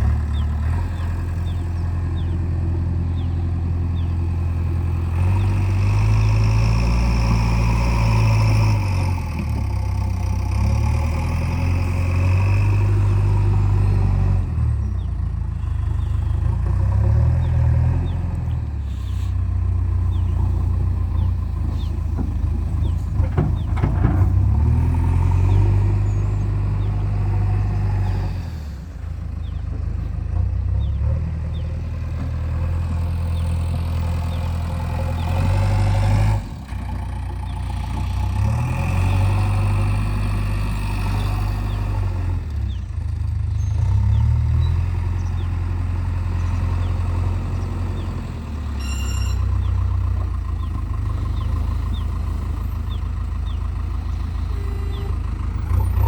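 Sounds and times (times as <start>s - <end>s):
diesel engines working: 0.0s - 56.0s.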